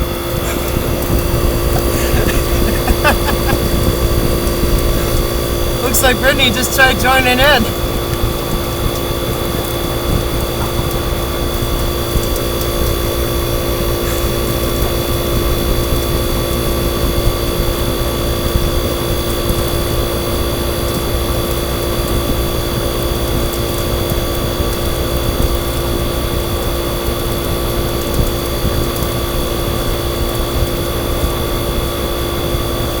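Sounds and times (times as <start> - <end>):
refrigeration compressor humming: 0.0 - 33.0.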